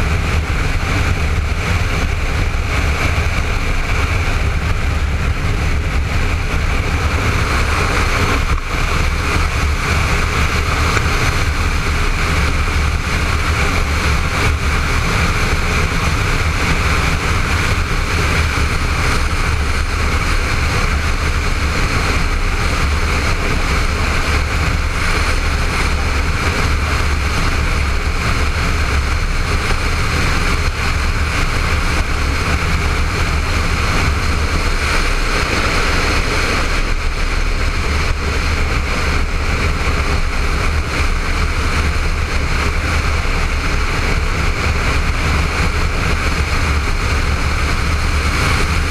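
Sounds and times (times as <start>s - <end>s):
motorcycle engine drone: 0.0s - 48.9s.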